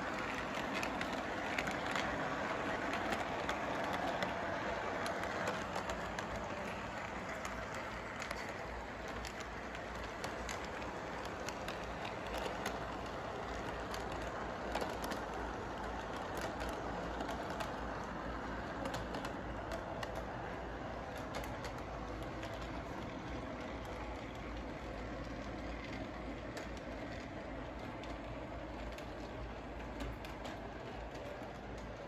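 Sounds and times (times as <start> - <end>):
model train rolling rumble: 0.0 - 32.0
wheels clicking on track: 0.0 - 32.0.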